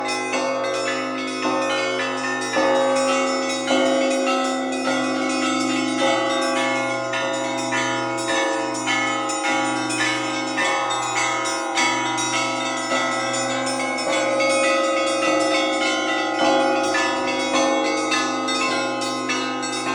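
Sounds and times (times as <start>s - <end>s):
deep church bell struck: 0.0s - 19.9s
smaller bells chiming: 0.0s - 19.9s.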